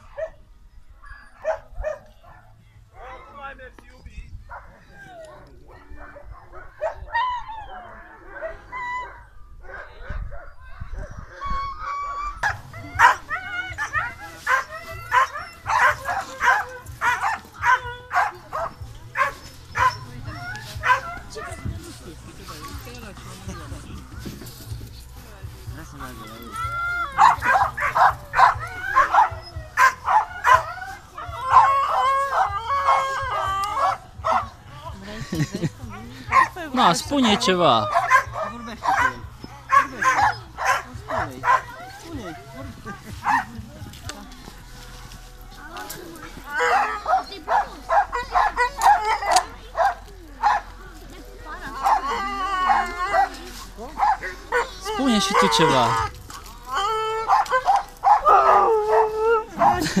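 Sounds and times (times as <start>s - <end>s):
dogs whining and yipping: 0.0s - 2.4s, 4.4s - 22.9s, 25.8s - 34.7s, 35.3s - 44.5s, 45.6s - 60.0s.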